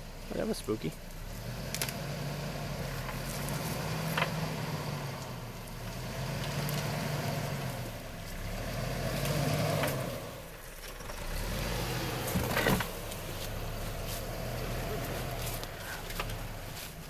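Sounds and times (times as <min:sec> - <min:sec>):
off-road vehicle engine: 0:00.0 - 0:17.0.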